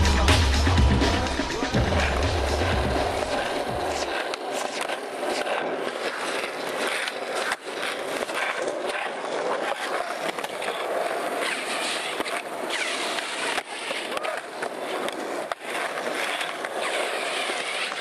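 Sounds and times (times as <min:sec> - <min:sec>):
skateboard wheels rolling on concrete: 0:00.0 - 0:18.0
skateboard clacks: 0:00.1 - 0:18.0.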